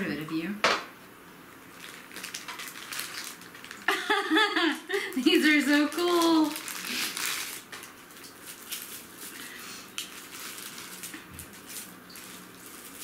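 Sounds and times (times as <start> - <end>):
plastic and paper crinkling: 1.7 - 4.4, 5.0 - 13.0.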